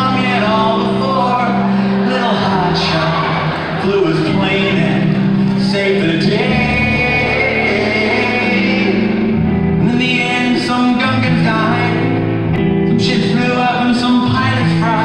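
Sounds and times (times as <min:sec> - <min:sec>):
live band music with singing: 0:00.0 - 0:15.0.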